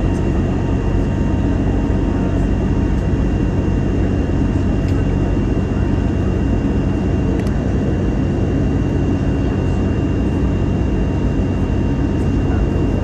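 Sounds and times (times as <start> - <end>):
jet engine and airflow noise: 0.0 - 13.0.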